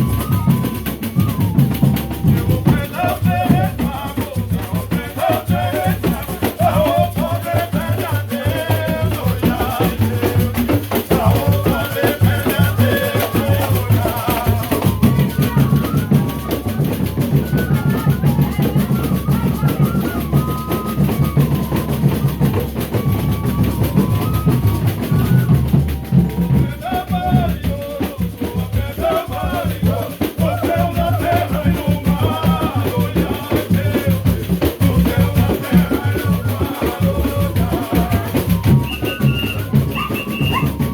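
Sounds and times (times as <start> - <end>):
drum beat: 0.0 - 40.9
people singing a melody: 0.0 - 40.9
rattle shaking: 0.0 - 40.9.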